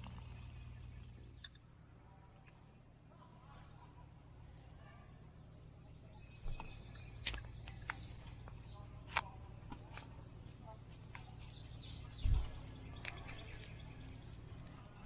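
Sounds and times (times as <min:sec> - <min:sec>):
faint birds chirping: 0:00.0 - 0:15.0
low steady hum: 0:00.0 - 0:15.0.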